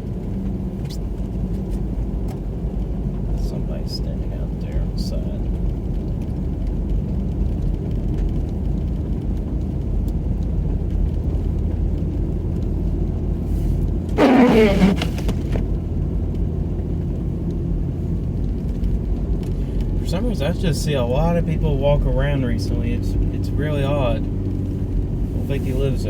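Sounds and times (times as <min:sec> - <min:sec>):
car driving on snow: 0:00.0 - 0:26.0.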